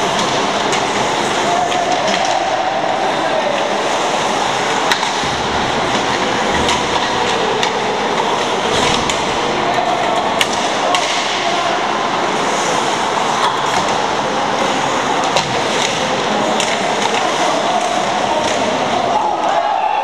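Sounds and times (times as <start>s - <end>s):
skates scraping ice: 0.0s - 19.6s
hockey sticks and puck clacking: 0.0s - 19.7s
arena hubbub: 0.0s - 20.0s.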